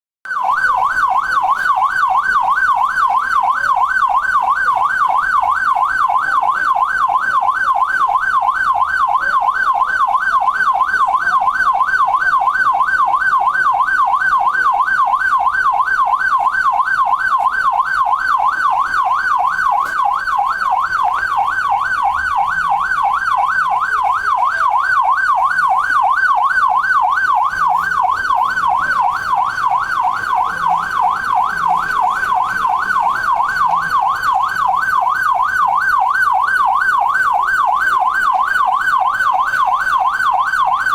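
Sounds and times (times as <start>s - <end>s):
siren yelp warble: 0.3s - 40.9s.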